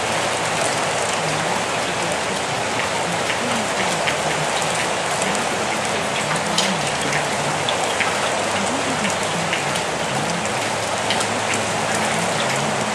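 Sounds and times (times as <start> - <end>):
faint low murmuring voice: 0.0 - 12.9
sharper raindrop patters: 0.0 - 12.9
steady rain falling: 0.0 - 12.9.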